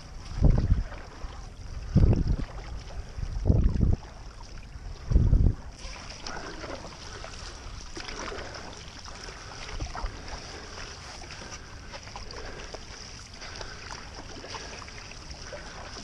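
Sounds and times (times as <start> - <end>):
light splashing ripples: 0.0 - 16.0
paddle strokes in water: 0.0 - 16.0
wind rumble on microphone: 0.0 - 16.0.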